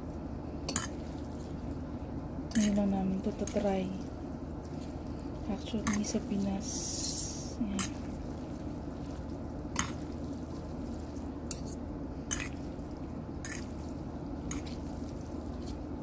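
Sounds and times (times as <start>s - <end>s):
steady low hum: 0.0s - 16.0s
wet stirring of noodles: 0.0s - 16.0s.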